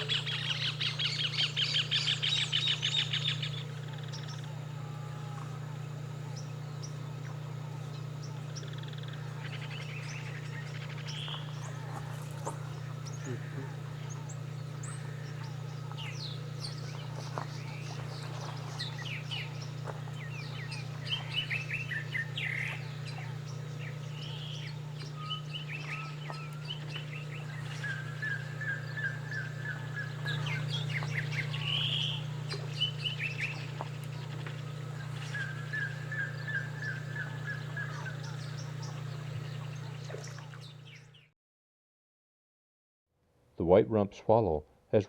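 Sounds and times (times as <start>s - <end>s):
birds chirping and calling: 0.0s - 41.3s
rapid bird trill: 0.0s - 41.3s
steady low hum: 0.0s - 41.3s.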